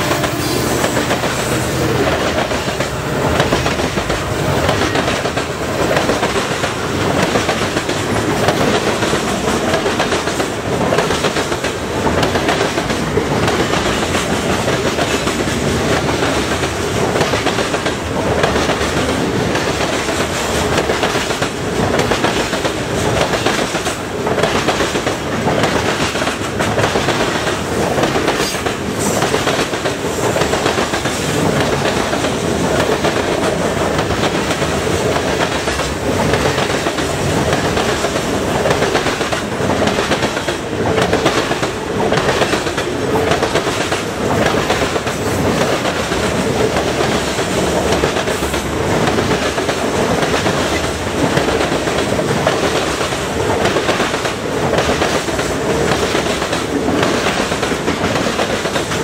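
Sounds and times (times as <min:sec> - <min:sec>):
freight train rolling past: 0:00.0 - 0:59.0
wheels clacking over rail joints: 0:00.0 - 0:59.0.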